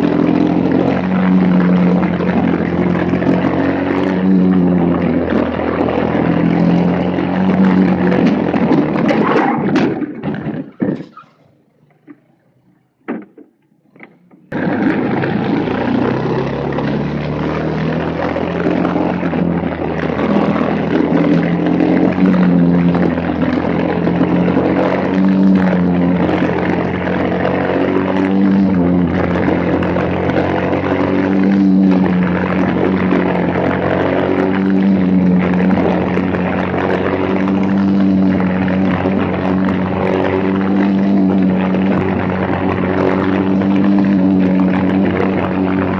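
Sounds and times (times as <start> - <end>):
kart engine revving: 0.0 - 45.9.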